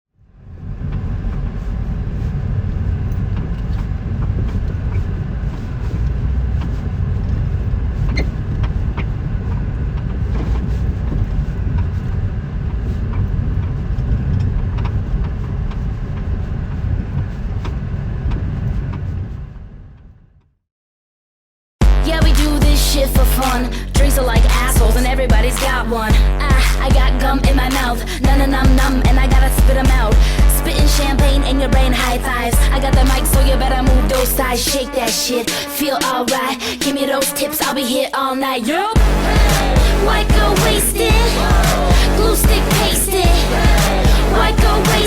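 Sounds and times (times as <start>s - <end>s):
road rumble: 0.2s - 19.5s, 21.8s - 35.1s, 39.0s - 45.0s.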